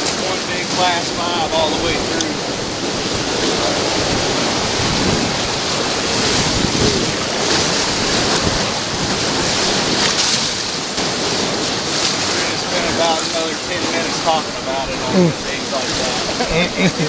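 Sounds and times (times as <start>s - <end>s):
whitewater rushing and splashing: 0.0s - 17.0s.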